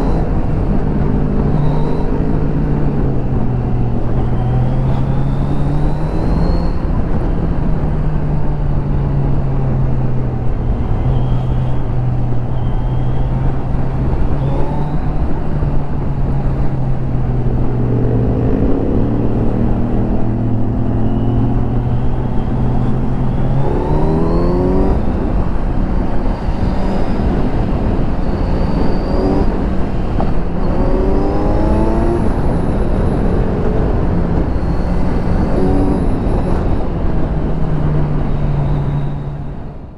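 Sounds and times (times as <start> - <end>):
motorcycle engine revving: 0.0 - 39.7
wind and road noise: 0.0 - 39.9.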